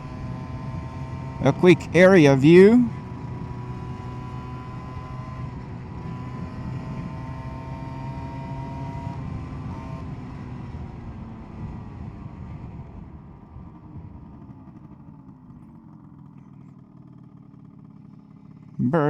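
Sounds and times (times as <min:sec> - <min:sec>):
scooter two-stroke engine running: 0:00.0 - 0:01.6, 0:02.8 - 0:19.0.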